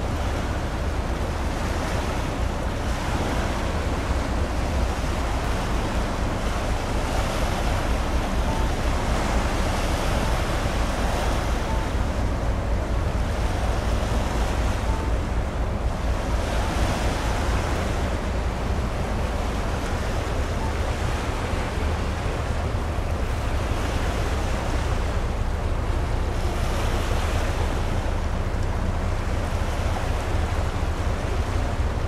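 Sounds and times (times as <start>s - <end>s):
sea water rushing: 0.0s - 32.0s.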